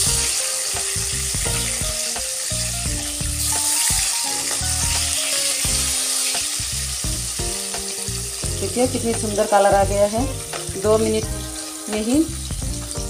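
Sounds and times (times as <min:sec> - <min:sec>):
background music: 0:00.0 - 0:13.0
fish sizzling in oil: 0:00.0 - 0:13.0.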